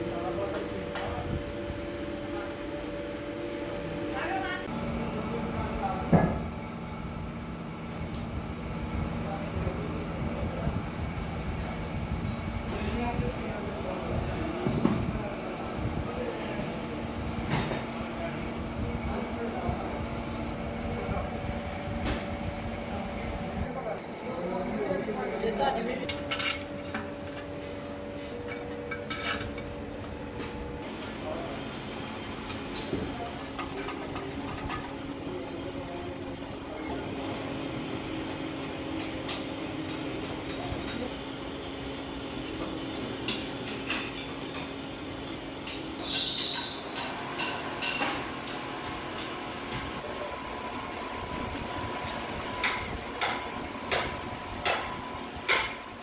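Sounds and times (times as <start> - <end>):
steady machine hum: 0.0 - 46.0, 47.0 - 56.0.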